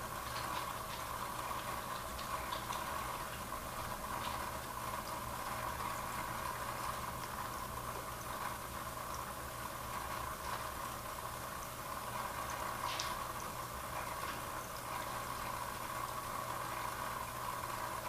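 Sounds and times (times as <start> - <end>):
aquarium water bubbling: 0.0 - 18.0.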